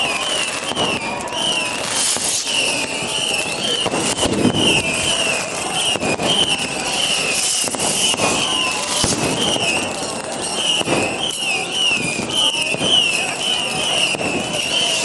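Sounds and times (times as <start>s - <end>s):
fireworks crackling and popping: 0.0s - 15.0s
high wavering whistle: 0.0s - 15.0s.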